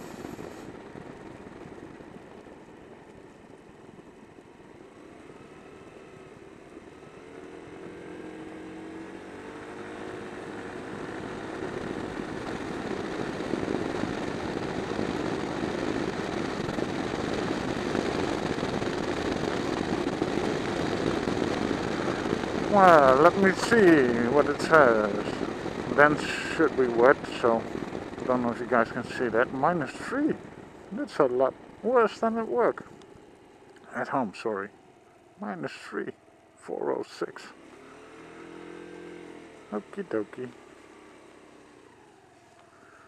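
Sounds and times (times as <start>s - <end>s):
wind and road noise: 0.0s - 43.0s
scooter engine accelerating: 4.9s - 35.2s, 37.6s - 43.0s.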